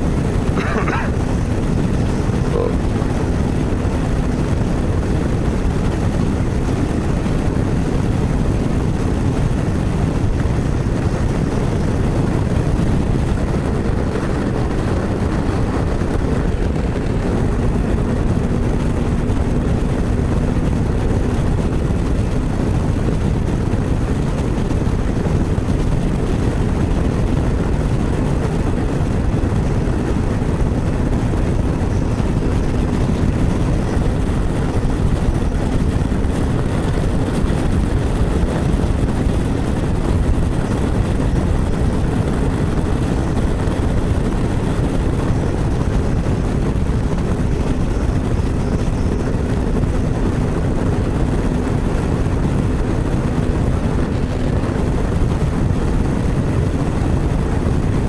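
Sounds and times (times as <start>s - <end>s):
motorcycle engine rumble: 0.0s - 58.0s.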